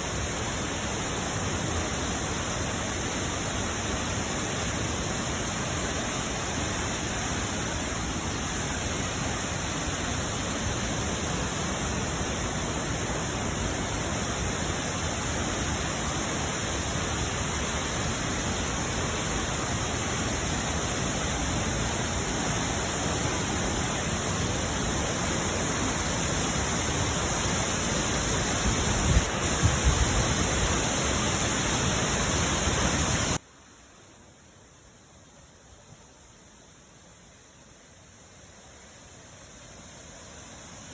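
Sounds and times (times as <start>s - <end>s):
waterfall roaring: 0.0s - 33.4s.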